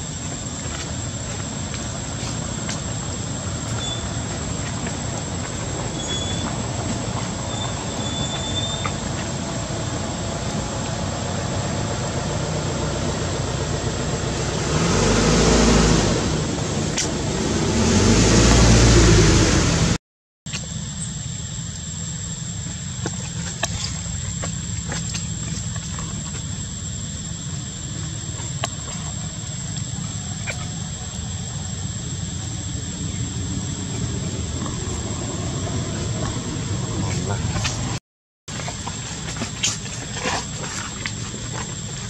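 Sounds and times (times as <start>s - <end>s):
vehicle engine: 0.0s - 20.0s, 22.2s - 42.0s.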